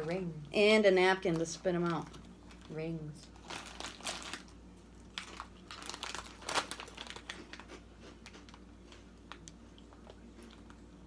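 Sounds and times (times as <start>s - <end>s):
snack bag rustling: 1.2s - 11.0s.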